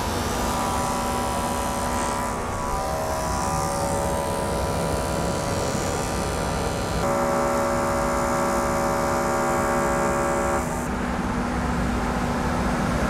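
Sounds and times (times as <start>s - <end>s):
welding arc buzzing: 0.0s - 10.9s.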